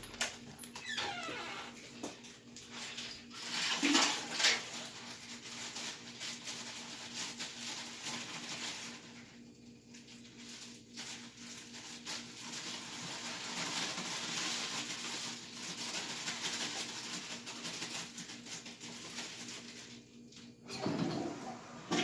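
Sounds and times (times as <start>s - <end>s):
plastic bag of ice rustling: 2.6s - 20.5s.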